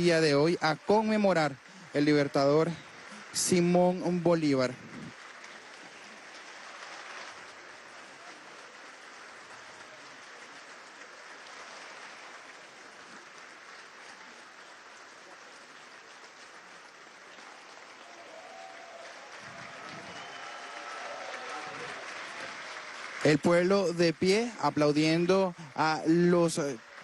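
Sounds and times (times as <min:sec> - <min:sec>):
audience clapping: 0:00.0 - 0:27.0.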